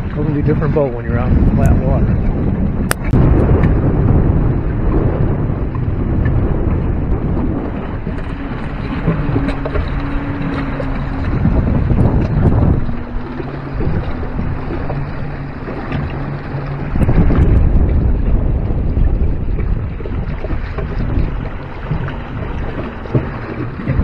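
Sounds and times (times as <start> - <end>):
water splashing along a hull: 0.0 - 24.0
wind buffeting microphone: 0.0 - 24.0.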